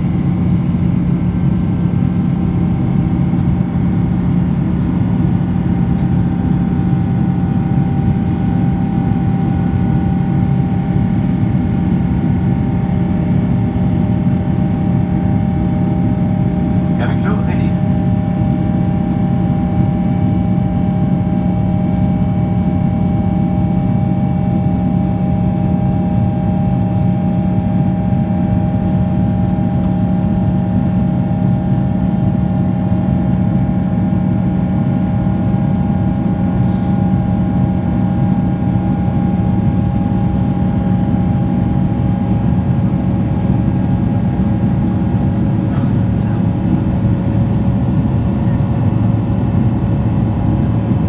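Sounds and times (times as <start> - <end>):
airplane cabin engine drone: 0.0 - 51.0.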